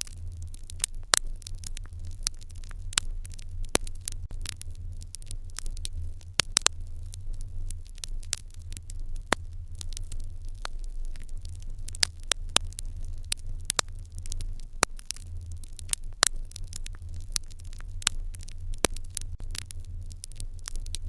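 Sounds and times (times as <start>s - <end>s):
fire crackling and popping: 0.0s - 21.0s
low steady hum: 0.0s - 21.0s.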